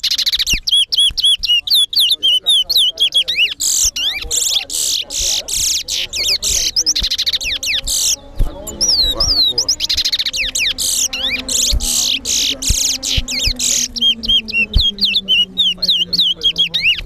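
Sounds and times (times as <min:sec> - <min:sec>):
down-slurred whistled notes: 0:00.0 - 0:17.0
finch singing trills: 0:00.0 - 0:17.0.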